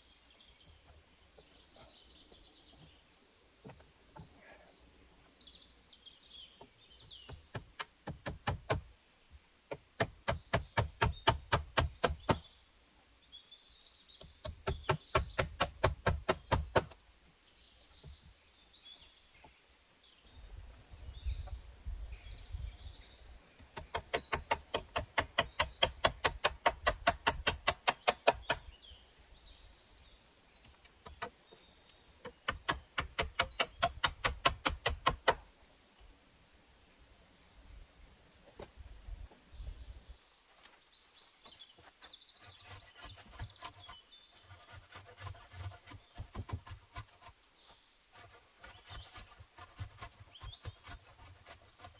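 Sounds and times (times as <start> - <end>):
birds chirping faintly: 0.0 - 51.9.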